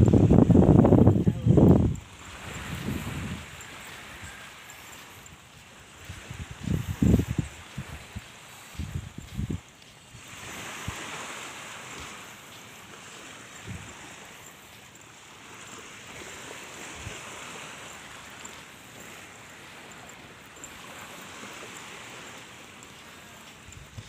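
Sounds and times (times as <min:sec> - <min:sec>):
surf washing onto sandy beach: 0:00.0 - 0:24.0.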